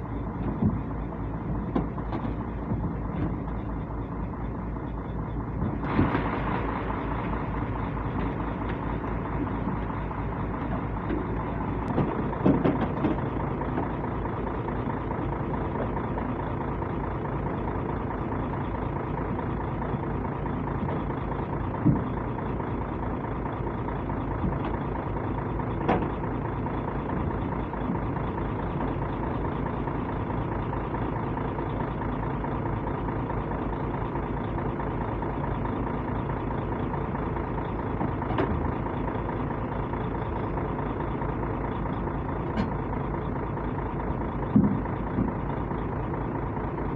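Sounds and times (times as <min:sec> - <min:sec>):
heavy diesel engine idling: 0:00.0 - 0:46.9.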